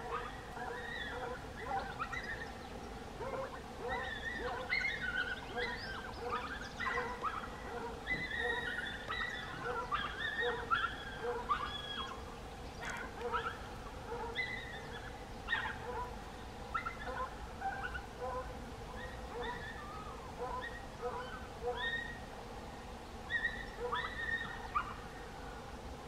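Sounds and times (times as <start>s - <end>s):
birds chirping and twittering: 0.0s - 25.8s.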